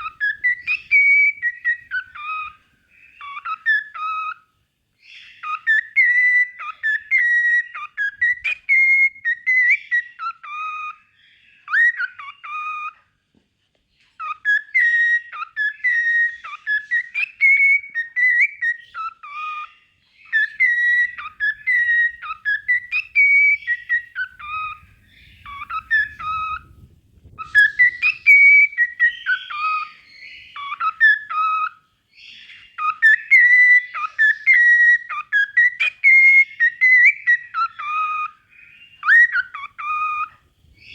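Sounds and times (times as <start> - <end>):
cockatiel whistling: 0.0 - 4.4, 5.0 - 11.0, 11.7 - 13.0, 14.2 - 40.9.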